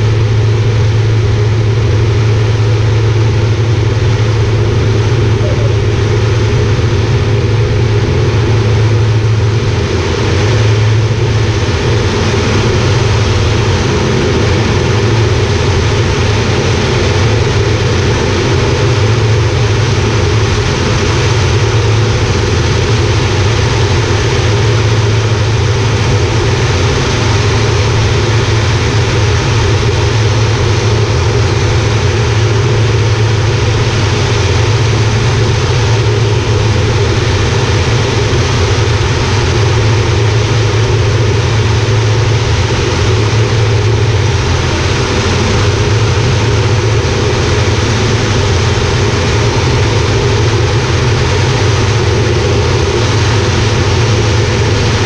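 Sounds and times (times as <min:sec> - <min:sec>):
turboprop engine droning: 0:00.0 - 0:55.0.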